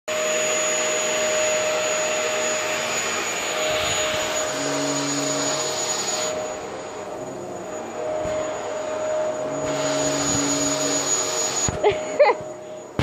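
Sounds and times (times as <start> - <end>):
vacuum cleaner on carpet: 0.1 - 13.0.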